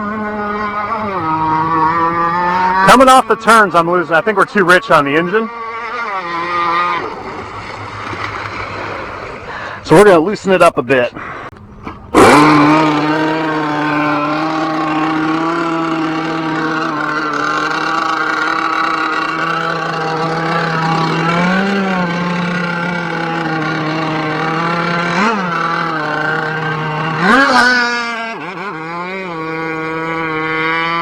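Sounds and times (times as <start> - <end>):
high-pitched boat engine: 0.0 - 10.6, 11.4 - 31.0.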